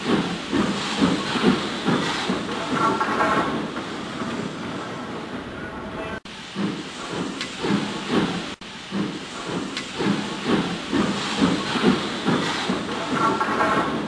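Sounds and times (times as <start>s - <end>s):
steam hiss: 0.0s - 5.3s, 6.3s - 14.0s
model steam locomotive chuffing: 0.0s - 5.5s, 6.3s - 14.0s.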